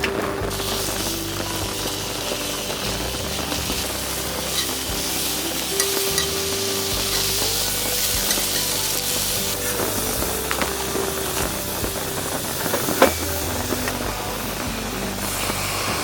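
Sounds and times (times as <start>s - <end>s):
food sizzling in pan: 0.0s - 16.0s.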